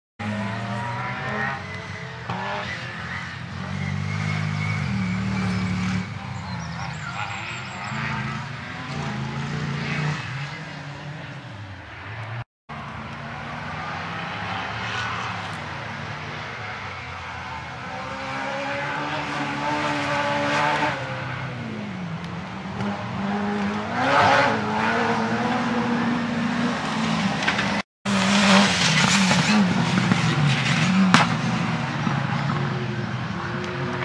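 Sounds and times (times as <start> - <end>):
racing car engine revving: 0.2 - 12.4, 13.0 - 34.0.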